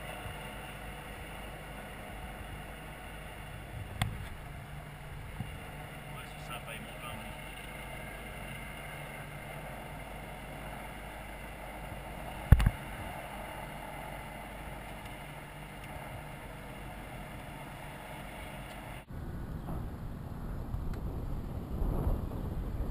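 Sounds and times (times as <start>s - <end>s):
aircraft engine noise: 0.0s - 22.9s.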